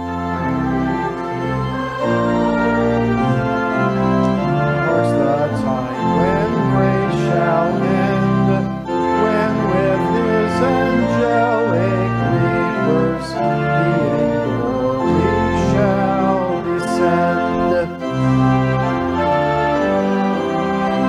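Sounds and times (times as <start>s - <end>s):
organ playing hymn chords: 0.0s - 21.0s
person singing: 0.4s - 18.9s.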